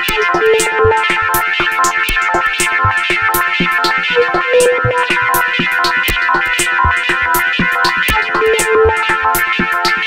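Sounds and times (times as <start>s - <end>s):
drum machine beat: 0.0s - 10.0s
synthesizer chords: 0.0s - 10.0s.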